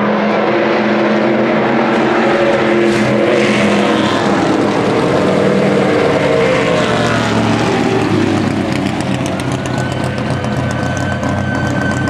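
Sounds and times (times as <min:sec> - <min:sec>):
car engine running at low revs: 0:00.4 - 0:12.0
thin high whine: 0:00.6 - 0:12.0.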